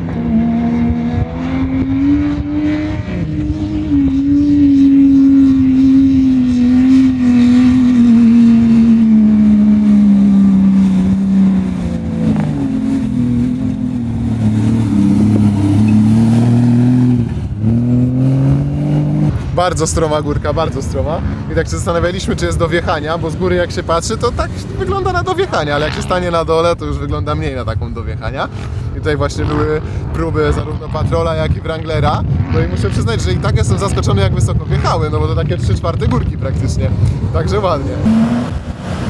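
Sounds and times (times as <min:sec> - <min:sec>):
engine running at high revs: 0:00.0 - 0:23.2, 0:29.4 - 0:39.0.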